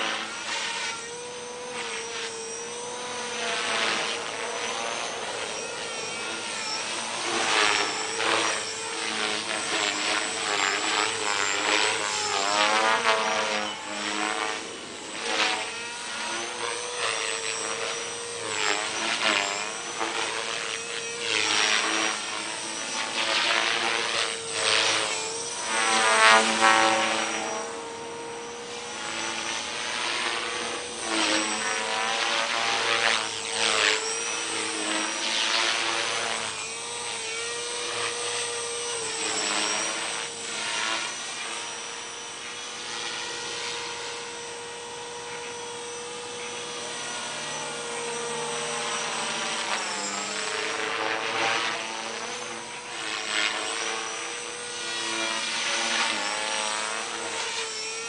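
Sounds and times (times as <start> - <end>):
rc helicopter whine: 0.0 - 58.0.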